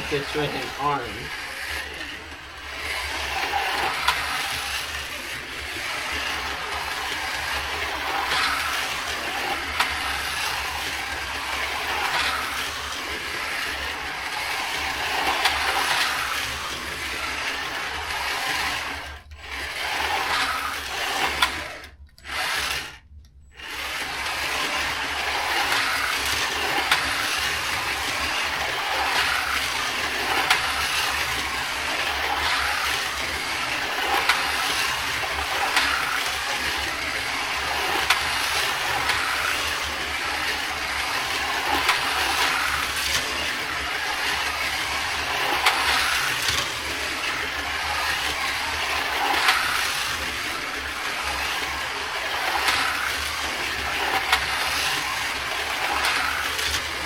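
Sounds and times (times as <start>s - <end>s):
slot car motors whirring: 0.0s - 57.0s.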